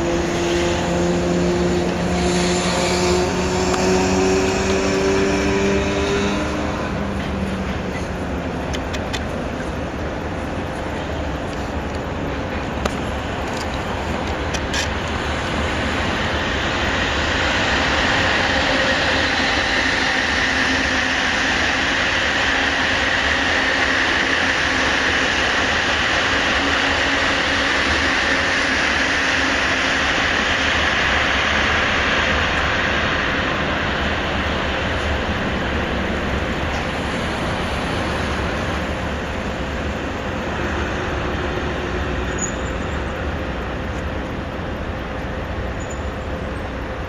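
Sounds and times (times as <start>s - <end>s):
freight train wheels on rails: 0.0s - 47.0s.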